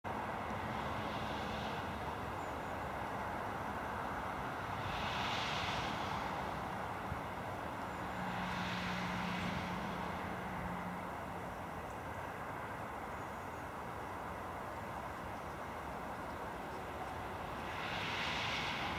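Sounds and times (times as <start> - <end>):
distant engine noise: 0.1 - 18.9.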